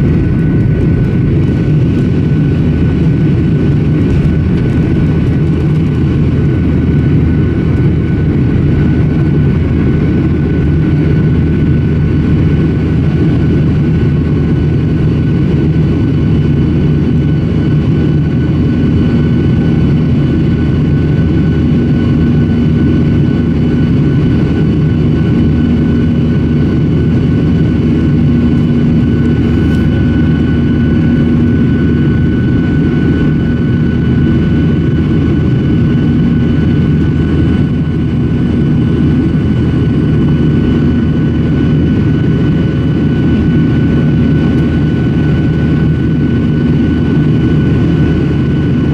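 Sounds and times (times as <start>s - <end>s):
jet engines low rumble: 0.0s - 48.9s.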